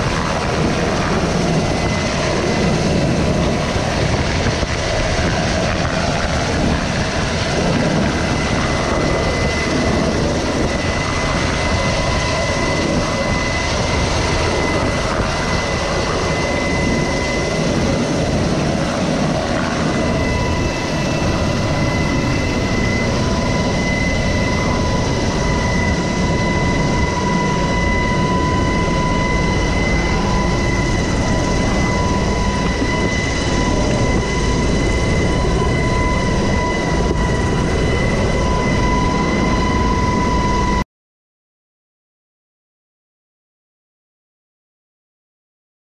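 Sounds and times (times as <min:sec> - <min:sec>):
helicopter rotor and engines: 0:00.0 - 0:40.8
high turbine whine: 0:00.0 - 0:40.8.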